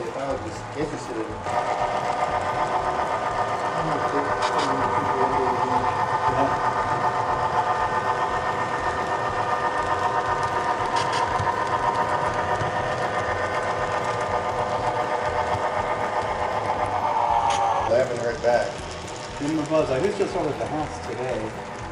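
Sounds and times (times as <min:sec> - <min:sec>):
model train mechanical hum: 0:00.0 - 0:21.9.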